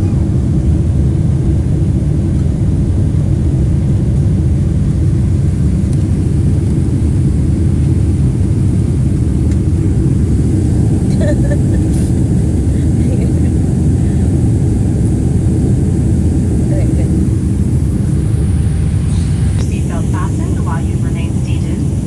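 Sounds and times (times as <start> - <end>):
jet airliner cabin rumble: 0.0 - 22.0.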